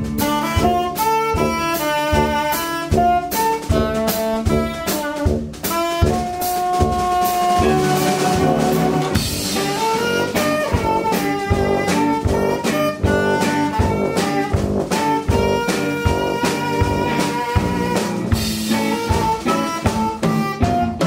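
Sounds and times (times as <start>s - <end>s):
drum beat: 0.0s - 21.0s
electric guitar: 0.0s - 21.0s
tenor saxophone: 0.0s - 21.0s
tuba: 0.0s - 21.0s.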